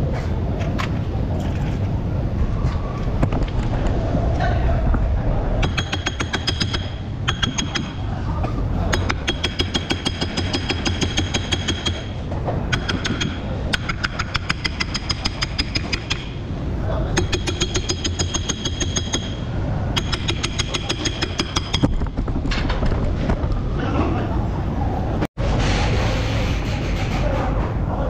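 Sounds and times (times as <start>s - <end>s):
steady low rumble: 0.0s - 10.9s, 12.0s - 17.6s, 19.3s - 20.0s, 21.7s - 28.0s.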